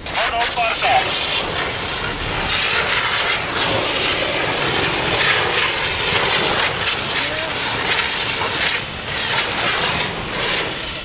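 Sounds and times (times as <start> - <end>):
fire hose spraying water: 0.0 - 11.0.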